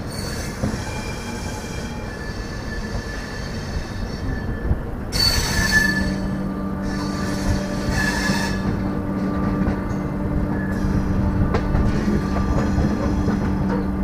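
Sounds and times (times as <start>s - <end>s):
running train rumble: 0.0s - 14.0s
train wheels squealing on track: 0.0s - 14.0s.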